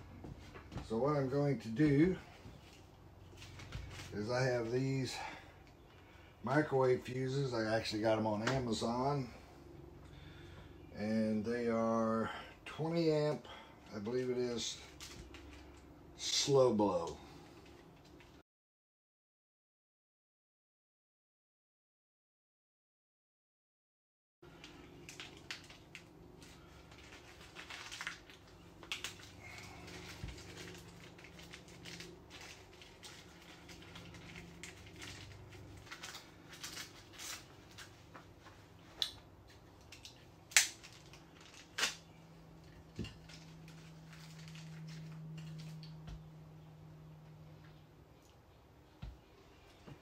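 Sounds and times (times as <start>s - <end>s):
faint low hum: 0.0s - 18.4s, 24.5s - 50.0s.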